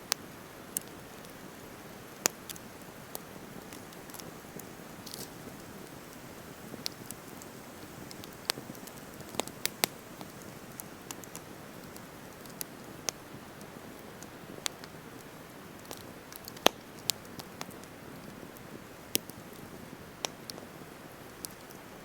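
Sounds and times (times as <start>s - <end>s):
campfire hissing and crackling: 0.0s - 22.0s.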